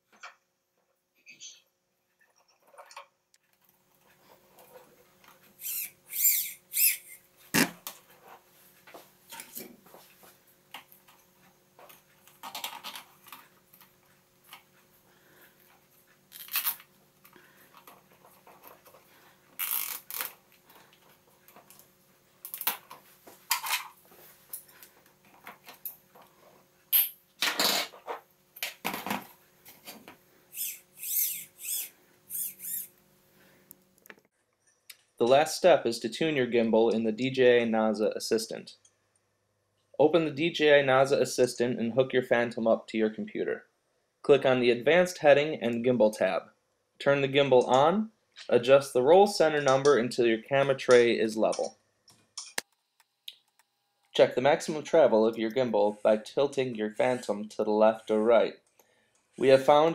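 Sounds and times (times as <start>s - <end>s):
faint steady hum: 3.5s - 59.9s.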